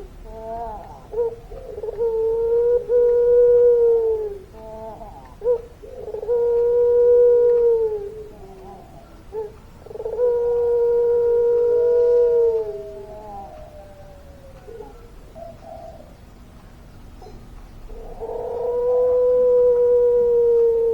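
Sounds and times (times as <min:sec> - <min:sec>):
dove cooing: 0:00.0 - 0:20.9.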